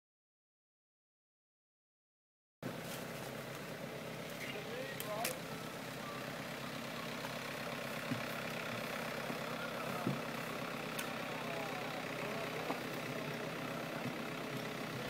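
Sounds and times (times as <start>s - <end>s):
engine idling: 2.6s - 15.0s.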